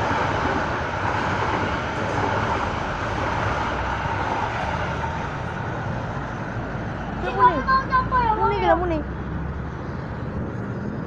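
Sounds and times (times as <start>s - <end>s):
large vehicle passing: 2.0s - 11.0s.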